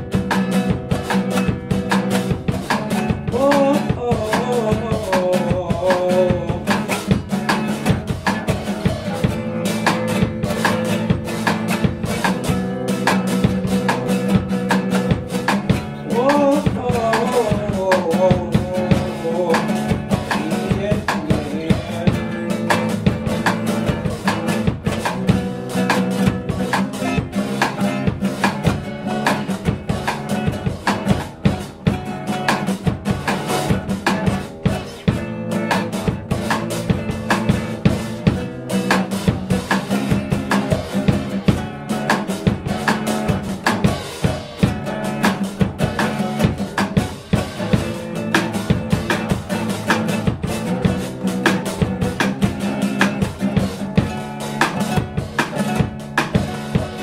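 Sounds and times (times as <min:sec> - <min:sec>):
classical guitar chords: 0:00.0 - 0:57.0
quick drumming on kick snare and rims: 0:00.0 - 0:57.0.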